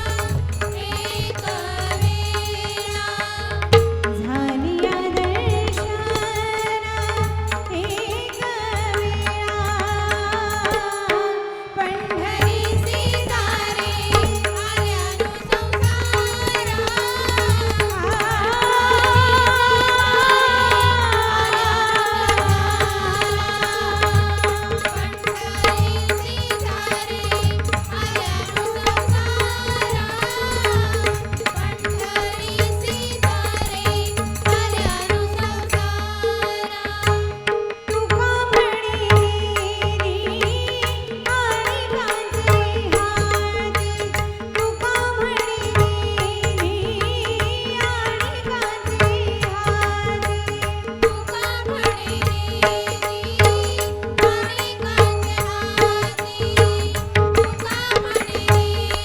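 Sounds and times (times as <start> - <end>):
tabla and pakhawaj drums: 0.0 - 59.0.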